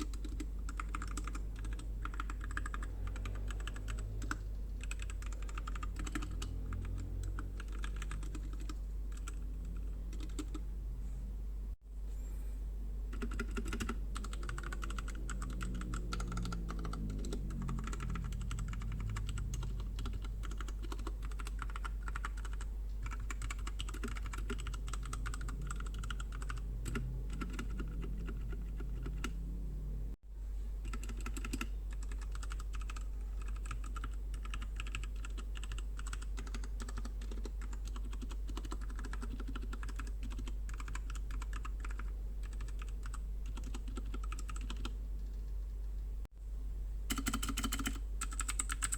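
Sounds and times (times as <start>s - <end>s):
fast typing on mechanical keyboard: 0.0s - 10.6s, 13.1s - 29.4s, 30.8s - 45.7s, 47.1s - 48.9s
steady low hum: 0.0s - 48.9s.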